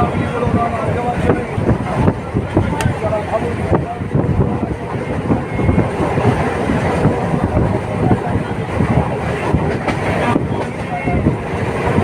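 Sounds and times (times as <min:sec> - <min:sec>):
train coach rumbling: 0:00.0 - 0:12.0.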